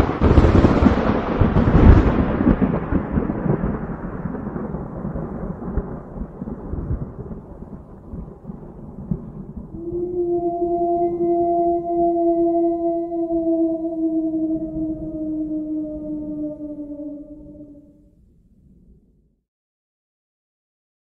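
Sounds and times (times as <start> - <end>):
thunderclap rumbling: 0.0 - 17.9.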